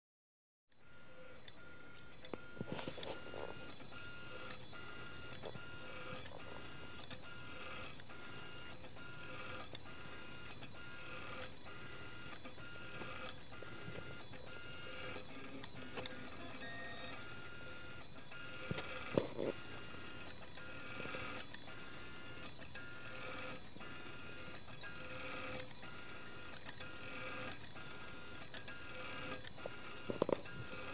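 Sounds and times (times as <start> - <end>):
stepper motors whining: 0.8 - 30.9.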